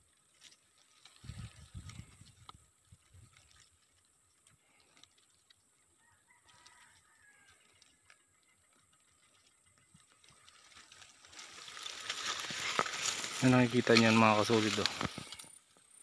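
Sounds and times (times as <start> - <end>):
leaves rustling against camera: 0.0 - 16.0.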